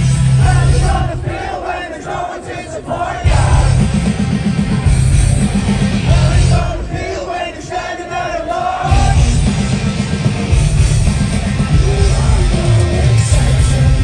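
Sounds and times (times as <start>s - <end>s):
live rock band: 0.0s - 1.3s, 3.1s - 14.0s.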